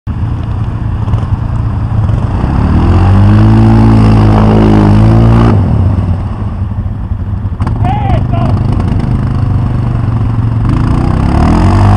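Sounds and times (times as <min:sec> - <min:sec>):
atv engine revving: 0:00.4 - 0:11.9.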